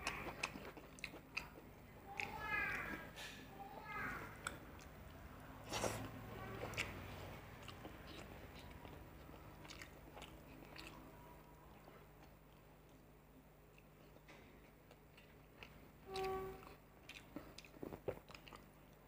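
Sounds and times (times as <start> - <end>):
person chewing: 0.0 - 3.2, 4.4 - 19.0
faint low hum: 0.0 - 19.0.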